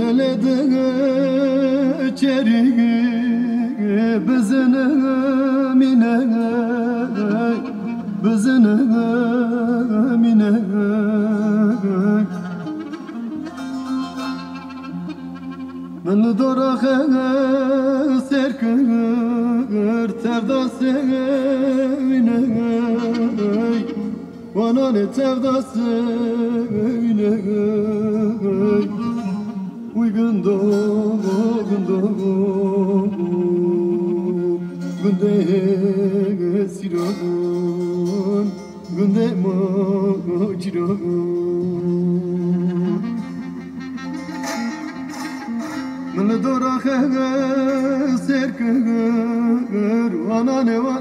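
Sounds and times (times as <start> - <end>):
person singing ornamented melody: 0.0 - 51.0
plucked string instrument: 0.0 - 51.0.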